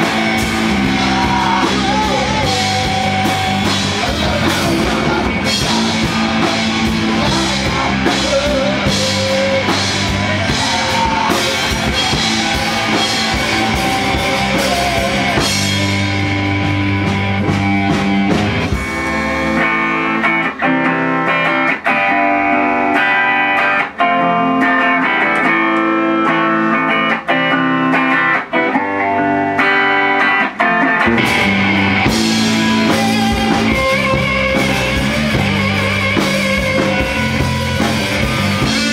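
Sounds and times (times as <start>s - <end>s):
clean electric guitar phrases: 0.0s - 38.9s
rock band playing: 0.0s - 38.9s.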